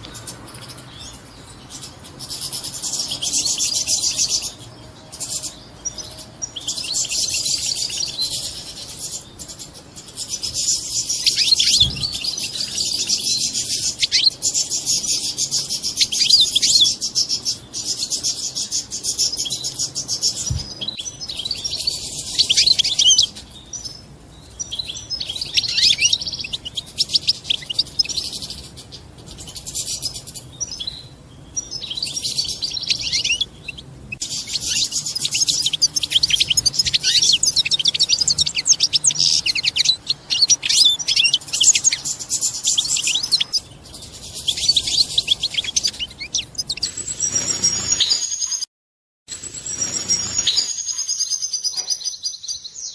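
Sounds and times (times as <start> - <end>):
goldfinch twittering: 0.0 - 48.2.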